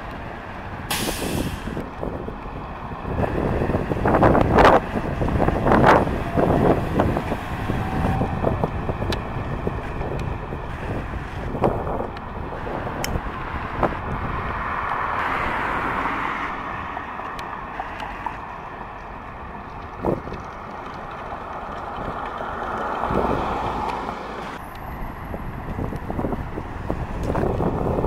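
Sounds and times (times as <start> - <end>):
traffic: 0.0 - 28.0
truck driving on a wet road: 0.0 - 28.0
wind buffeting the microphone: 0.0 - 28.0.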